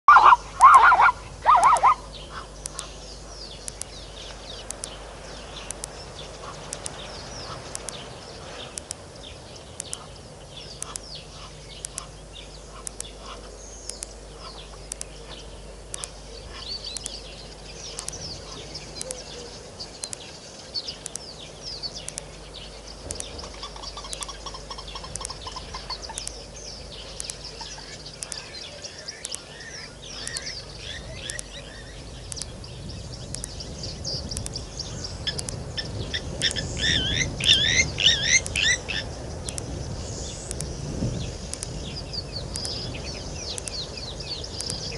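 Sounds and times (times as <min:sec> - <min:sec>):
wild birds chirping: 0:00.0 - 0:44.9.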